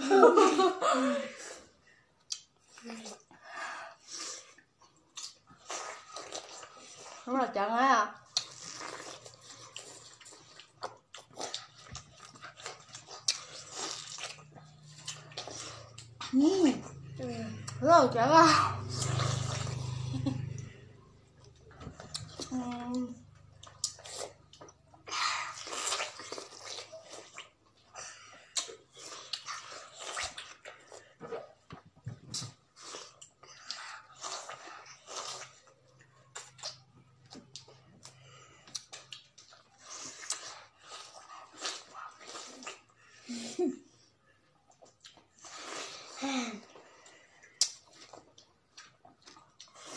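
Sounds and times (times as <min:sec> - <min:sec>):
people chewing watermelon: 0:00.0 - 0:49.9.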